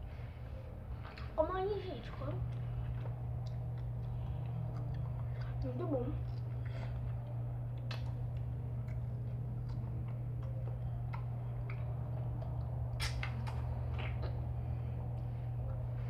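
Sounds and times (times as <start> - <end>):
children chewing strawberries: 0.0 - 16.0
low electrical hum: 0.0 - 16.0.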